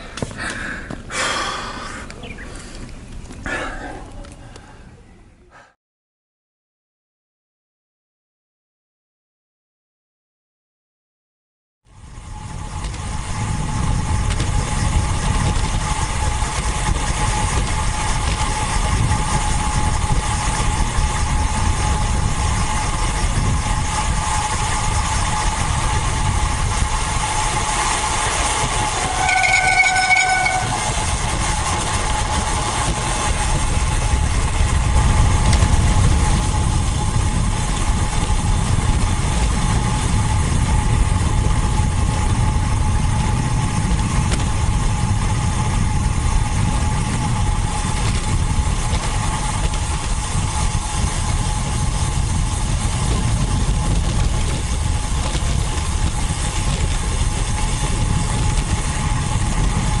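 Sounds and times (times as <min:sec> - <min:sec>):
low rumble: 0:11.9 - 1:00.0.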